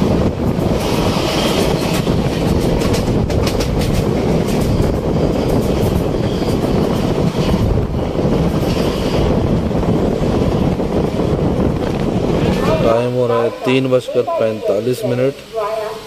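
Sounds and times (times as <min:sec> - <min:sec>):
wind buffeting microphone: 0:00.0 - 0:14.4
train wheels rumbling on track: 0:00.0 - 0:16.0.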